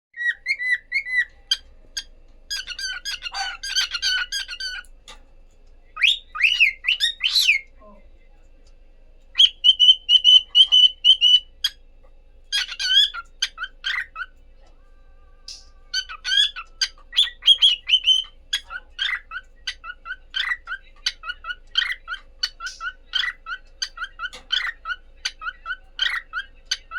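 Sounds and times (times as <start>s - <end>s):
cockatiels whistling: 0.2s - 4.8s, 6.0s - 7.7s, 9.4s - 11.8s, 12.5s - 14.3s, 15.5s - 26.9s
cockatiels chirping: 0.2s - 5.2s, 6.0s - 7.7s, 9.4s - 11.8s, 12.5s - 14.4s, 15.5s - 26.9s.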